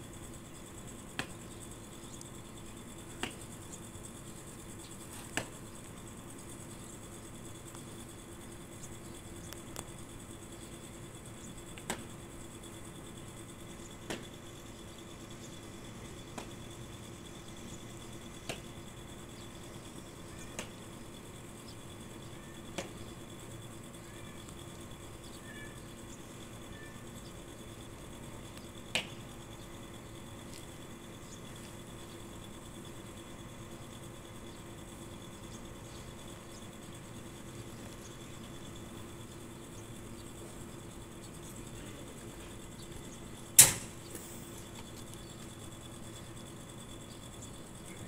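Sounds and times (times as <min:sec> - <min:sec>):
faint high whine: 0:00.0 - 0:48.0
insects chirping: 0:00.0 - 0:48.0.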